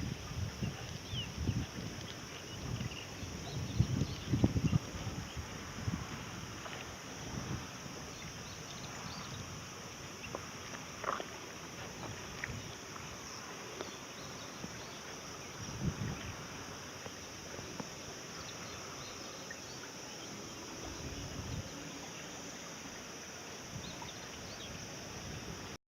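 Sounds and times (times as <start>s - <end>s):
high-pitched insect chorus: 0.0s - 25.8s.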